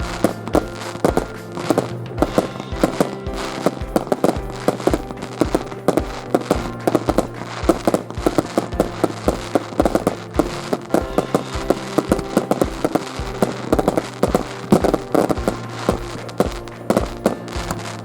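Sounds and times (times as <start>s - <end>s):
fireworks bursting and crackling: 0.0s - 18.0s
music playing: 0.0s - 18.0s.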